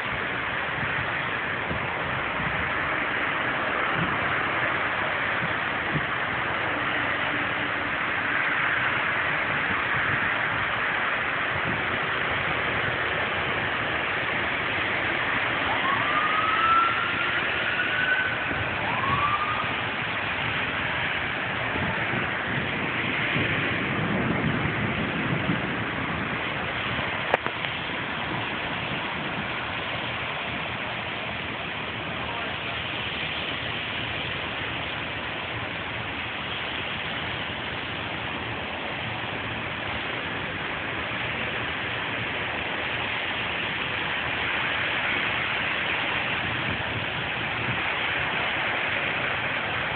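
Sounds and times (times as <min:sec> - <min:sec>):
traffic hiss on wet road: 0:00.0 - 0:49.9
vehicle engine rumble: 0:00.0 - 0:49.9.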